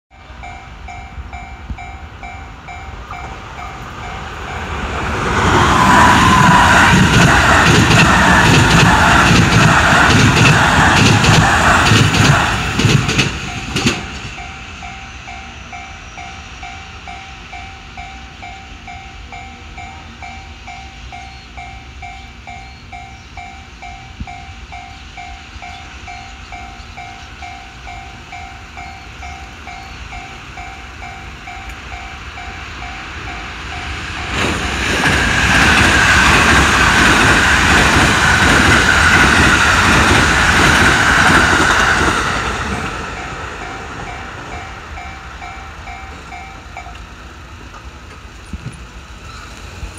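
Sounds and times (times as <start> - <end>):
train cars rattling past: 0.1 - 49.9
train rumbling rush: 0.1 - 49.9.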